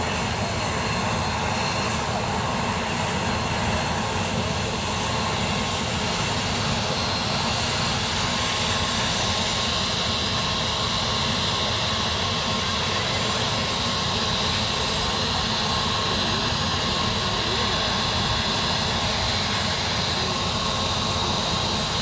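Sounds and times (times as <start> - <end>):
helicopter engine and rotor running: 0.0 - 22.0.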